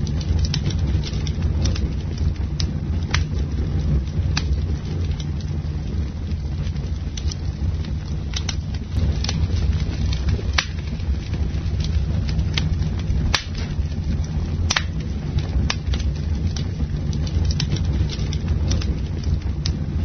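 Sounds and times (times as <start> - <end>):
burning wood crackling and popping: 0.0 - 20.0
campfire flames rumbling: 0.0 - 20.0.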